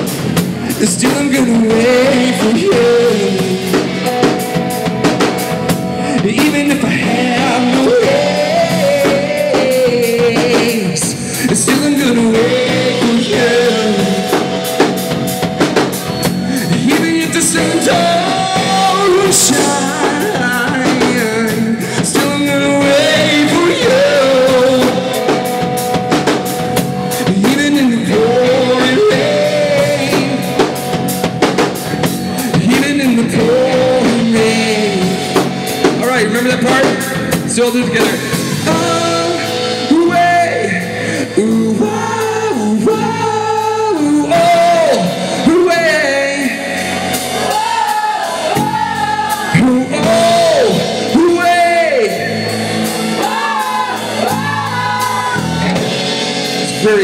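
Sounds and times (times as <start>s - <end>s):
drum kit: 0.0s - 57.0s
electric guitar: 0.0s - 57.0s
man singing: 0.0s - 57.0s.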